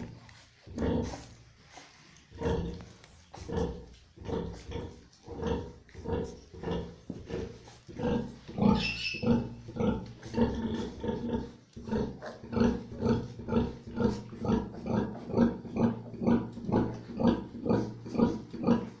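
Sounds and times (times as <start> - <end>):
sow grunting: 0.7 - 1.4, 2.4 - 19.0.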